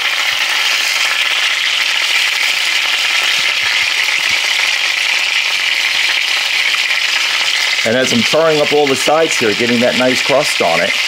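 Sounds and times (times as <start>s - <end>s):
meat sizzling in hot fat: 0.0s - 11.0s.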